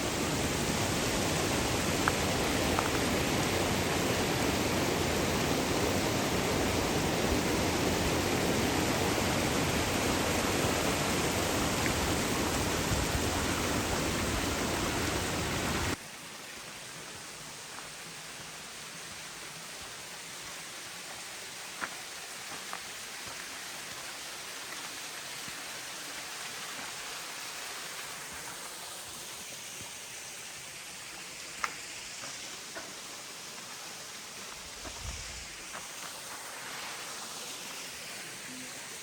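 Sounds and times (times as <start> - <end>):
stream of running water: 0.0 - 39.0.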